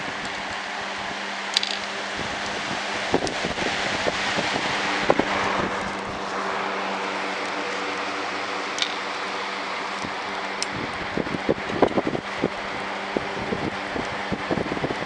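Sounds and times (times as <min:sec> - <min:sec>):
whirligig propeller whirring: 0:00.0 - 0:15.0
wind buffeting microphone: 0:01.9 - 0:09.2, 0:09.8 - 0:15.0.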